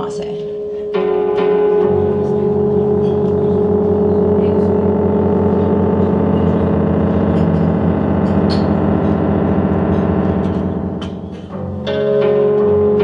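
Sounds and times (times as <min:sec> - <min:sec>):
synthesizer drone: 0:00.4 - 0:13.0.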